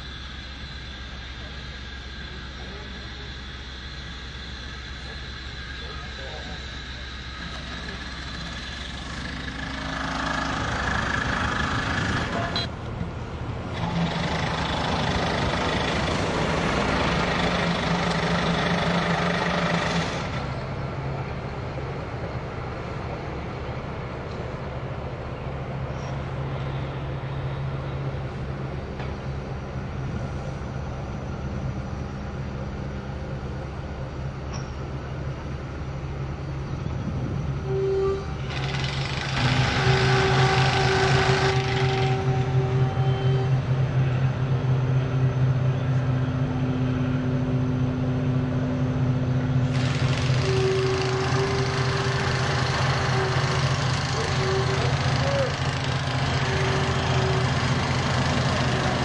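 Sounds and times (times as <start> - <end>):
construction site noise: 0.0 - 59.0
heavy machinery engine humming: 0.0 - 59.0.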